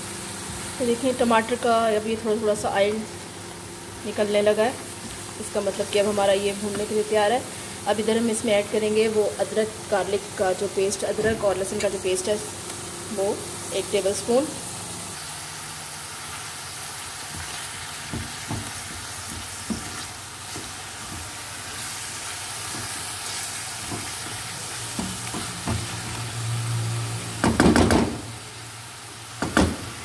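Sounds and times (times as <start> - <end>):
masala sizzling in oil: 0.0 - 30.0.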